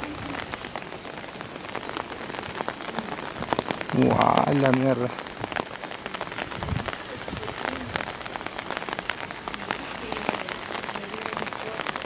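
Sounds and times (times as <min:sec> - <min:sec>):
water spattering: 0:00.0 - 0:12.0.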